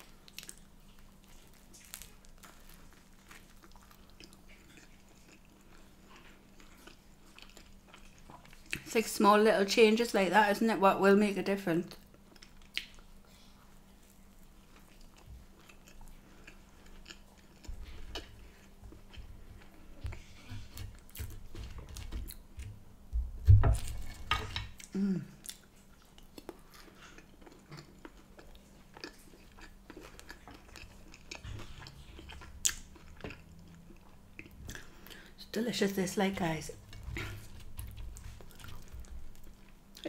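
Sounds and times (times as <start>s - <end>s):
chewing crusty bread and chips: 0.0s - 9.0s, 11.9s - 22.8s, 23.8s - 40.0s.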